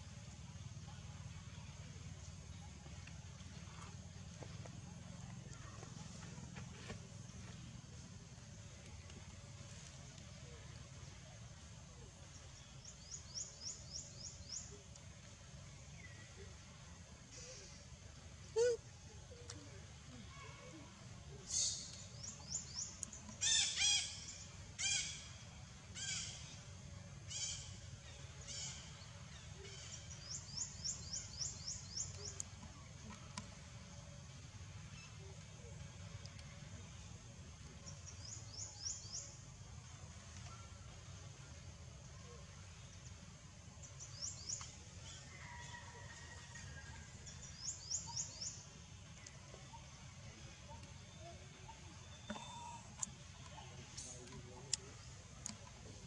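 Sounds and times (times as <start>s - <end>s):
faint outdoor background noise: 0.0s - 56.0s
low steady rumble: 0.0s - 56.0s.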